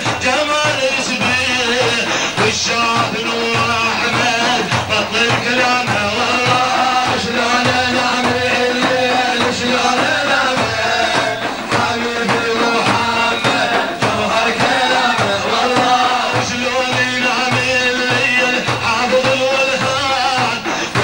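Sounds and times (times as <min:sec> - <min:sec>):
person singing ornamented notes: 0:00.0 - 0:20.6
steady drum beat: 0:00.0 - 0:21.0.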